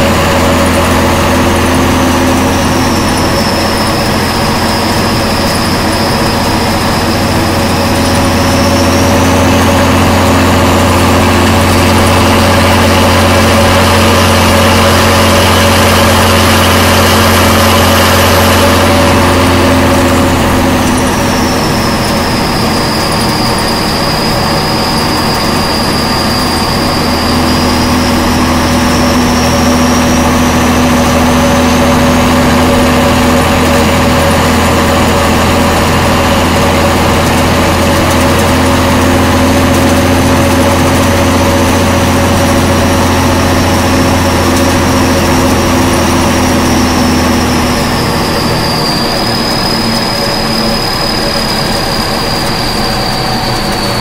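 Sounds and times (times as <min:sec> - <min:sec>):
high whine: 0:00.0 - 0:54.0
truck diesel engine running: 0:00.0 - 0:54.0.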